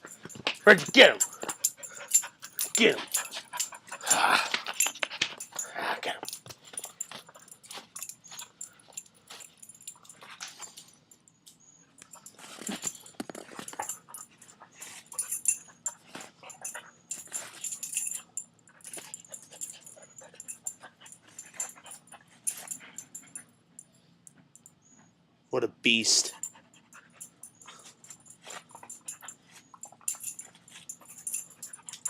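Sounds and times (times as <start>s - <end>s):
dog noises: 0.0s - 10.9s, 12.0s - 23.5s, 26.2s - 32.0s.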